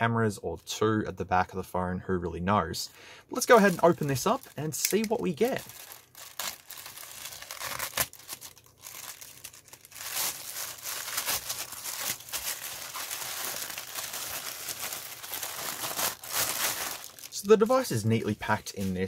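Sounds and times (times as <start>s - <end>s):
plastic bag crinkling: 3.4s - 19.0s.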